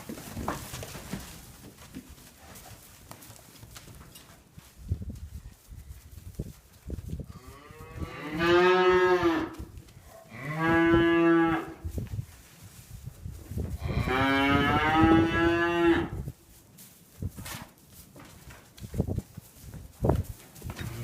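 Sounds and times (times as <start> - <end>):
hooves knocking on barn floor: 0.0 - 8.4, 9.4 - 21.0.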